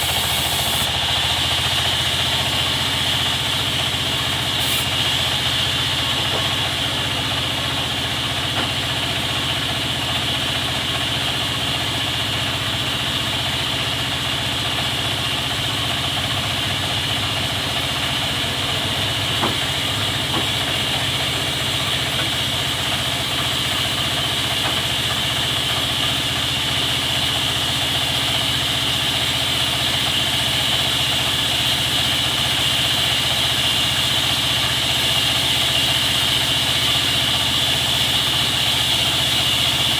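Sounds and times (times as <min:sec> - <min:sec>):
sawmill machinery hum and whine: 0:00.0 - 0:39.9.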